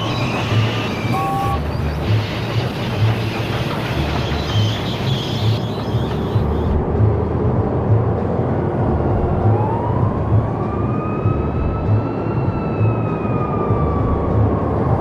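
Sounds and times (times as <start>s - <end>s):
siren-like rising tone: 0.0s - 6.7s, 8.9s - 15.0s
noisy city rumble: 0.0s - 15.0s.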